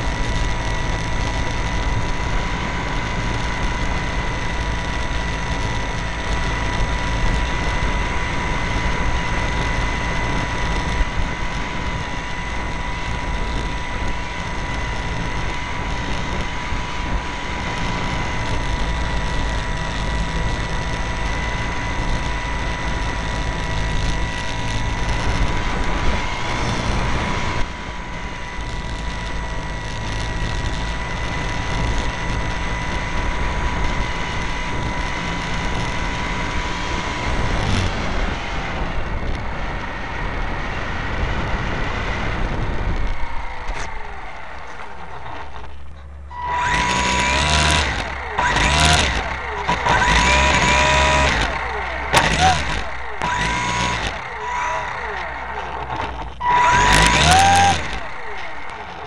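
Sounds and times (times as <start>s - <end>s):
model plane motor whining: 0.0s - 59.0s
wind rushing over microphone: 0.0s - 59.0s.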